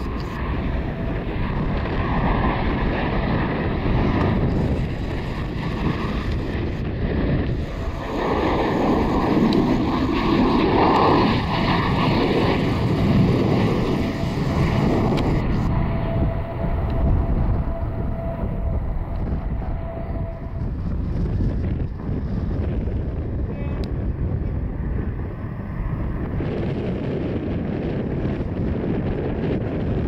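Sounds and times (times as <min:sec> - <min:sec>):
jet engine roar: 0:00.0 - 0:30.0
wind buffeting microphone: 0:00.0 - 0:30.0.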